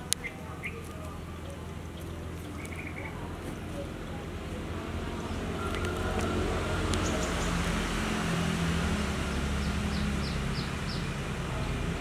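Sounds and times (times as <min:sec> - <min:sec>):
distant traffic rumble: 0:00.0 - 0:12.0
faint engine hum: 0:00.0 - 0:12.0.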